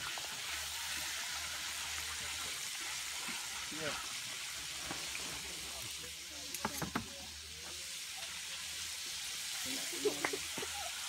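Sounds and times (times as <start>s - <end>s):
sizzling over wood fire: 0.0s - 11.0s.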